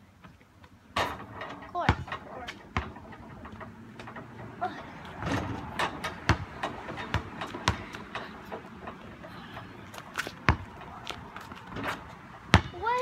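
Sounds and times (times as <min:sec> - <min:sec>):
basketball bouncing: 0:01.0 - 0:13.0.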